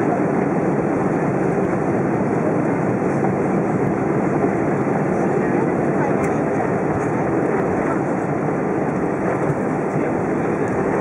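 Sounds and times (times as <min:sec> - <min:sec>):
aircraft rolling rumble: 0:00.0 - 0:11.0
jet engines idling: 0:00.0 - 0:11.0.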